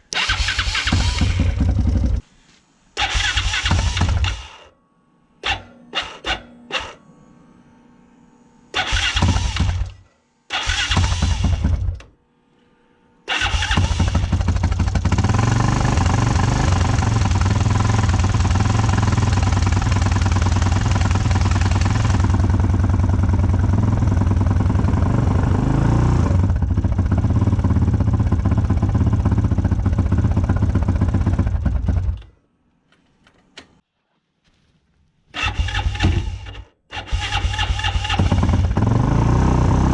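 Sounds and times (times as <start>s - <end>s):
quad bike engine starting and running: 0.0s - 2.2s, 3.0s - 4.6s, 5.4s - 7.0s, 8.8s - 12.1s, 13.3s - 32.3s, 35.4s - 39.9s.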